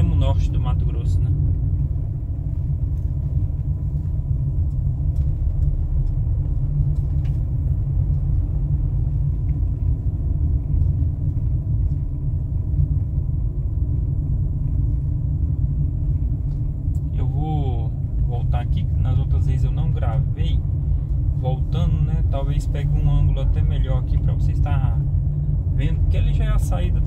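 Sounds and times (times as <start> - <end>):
car driving interior rumble: 0.0 - 27.0.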